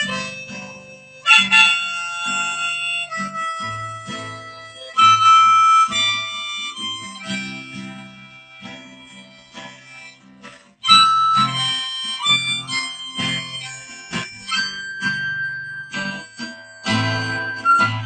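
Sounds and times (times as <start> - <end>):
acoustic guitar: 0.0 - 18.0
harmonica: 0.0 - 18.0.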